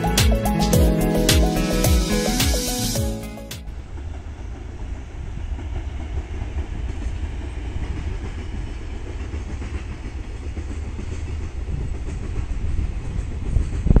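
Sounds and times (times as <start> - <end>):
freight train rumbling over rails: 0.0 - 14.0.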